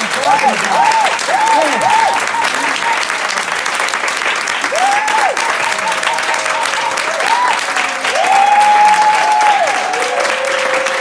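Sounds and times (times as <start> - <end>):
audience clapping: 0.0 - 11.0
whooping cheers: 0.1 - 3.4, 4.6 - 11.0.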